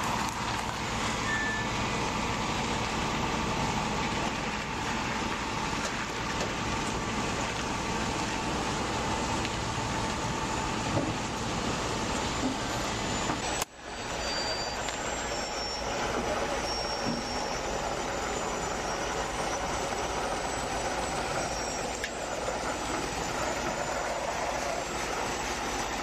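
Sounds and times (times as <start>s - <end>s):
heavy truck engine and rolling: 0.0s - 26.0s.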